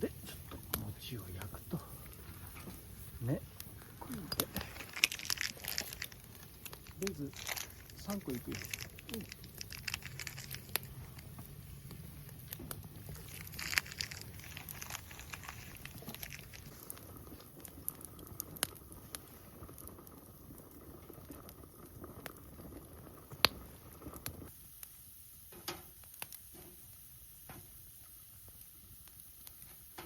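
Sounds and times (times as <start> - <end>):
campfire crackling: 0.0 - 30.0
sharp pops from fire: 0.0 - 30.0.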